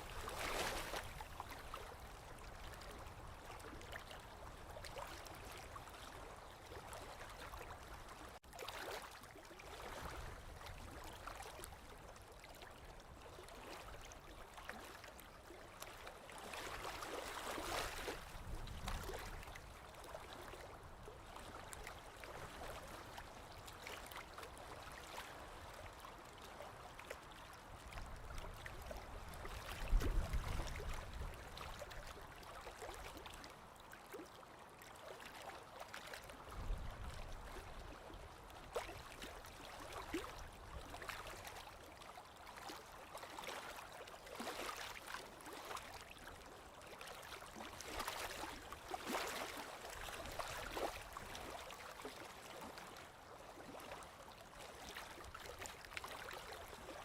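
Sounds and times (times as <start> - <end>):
lake waves lapping on shore: 0.0 - 57.0.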